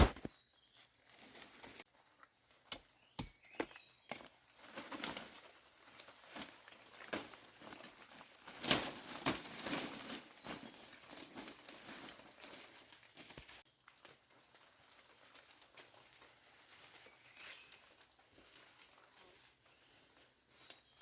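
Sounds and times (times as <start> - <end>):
rustling and crinkling: 0.0 - 2.0, 4.3 - 21.0.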